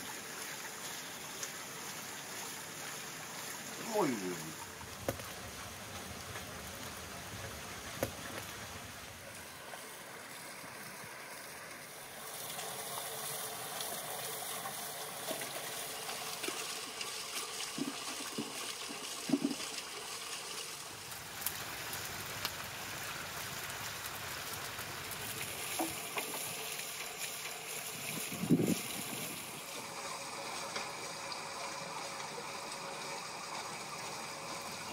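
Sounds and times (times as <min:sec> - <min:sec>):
water boiling hard: 0:00.0 - 0:34.9
wood fire crackling: 0:02.8 - 0:34.9.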